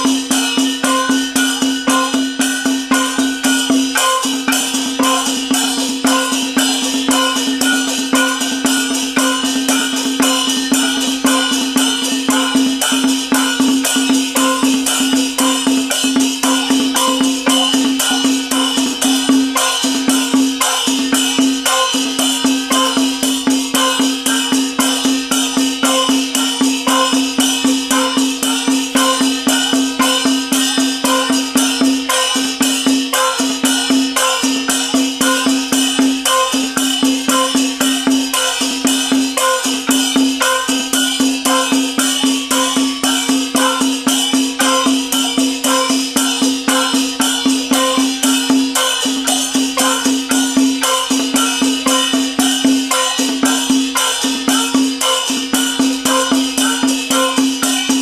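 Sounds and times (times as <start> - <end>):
gong and drum percussion: 0.0 - 58.0.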